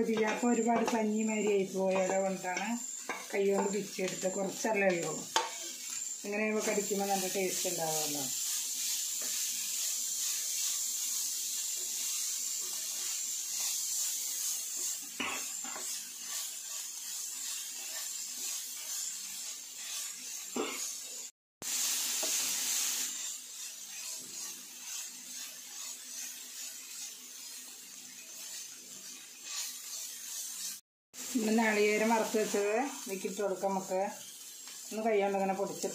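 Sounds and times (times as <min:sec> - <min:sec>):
wooden spatula scraping: 0:00.0 - 0:21.0, 0:22.2 - 0:30.8
food sizzling in a pan: 0:00.0 - 0:35.9.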